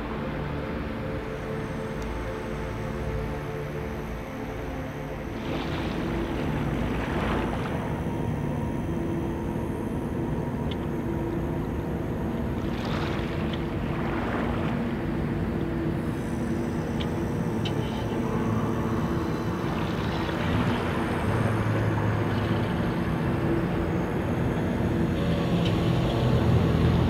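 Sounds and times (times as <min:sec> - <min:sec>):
ship machinery droning: 0:00.0 - 0:27.0.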